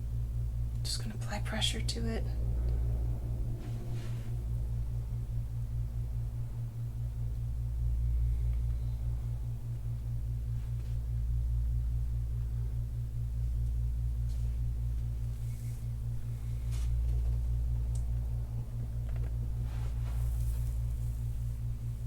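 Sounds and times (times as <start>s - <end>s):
low pulsing machine hum: 0.0s - 22.0s.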